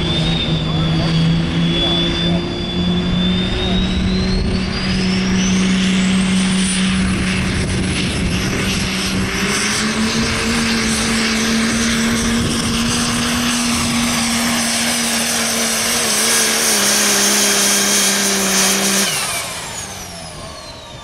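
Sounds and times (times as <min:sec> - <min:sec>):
diesel truck engine drone: 0:00.0 - 0:21.0.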